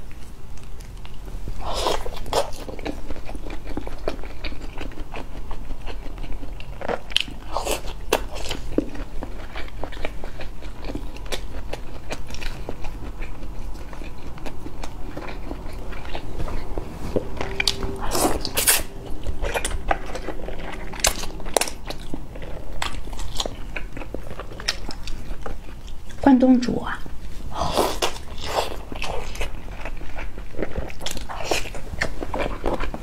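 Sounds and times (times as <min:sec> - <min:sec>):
person chewing fried food: 0:00.0 - 0:26.2, 0:27.1 - 0:33.0.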